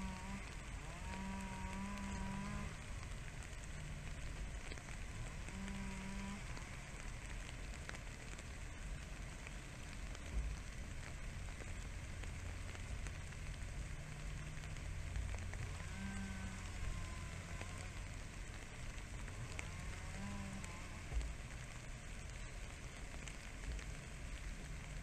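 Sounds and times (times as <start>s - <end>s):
low rumble: 0.0s - 25.0s
steady outdoor hiss: 0.0s - 25.0s.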